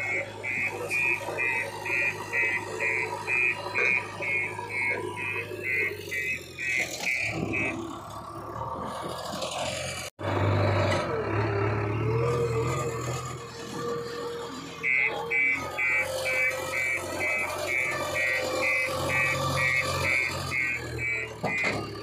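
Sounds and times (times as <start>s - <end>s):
diesel engine running and revving: 0.0s - 22.0s.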